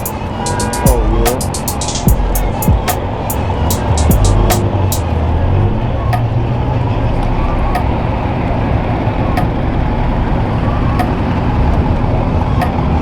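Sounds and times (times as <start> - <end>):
car engines running: 0.0 - 13.0
crowd noise: 0.0 - 13.0
vehicle noise: 0.0 - 13.0.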